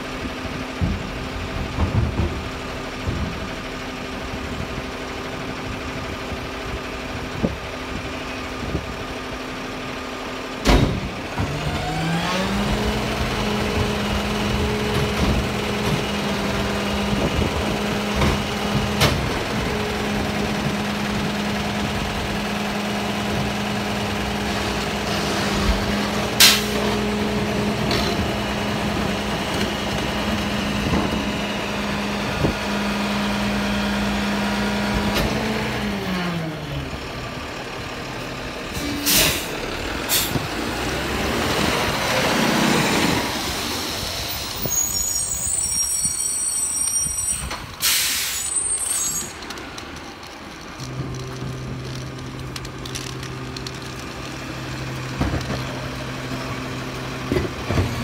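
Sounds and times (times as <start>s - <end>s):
diesel engine idling: 0.0s - 45.6s, 47.7s - 57.6s.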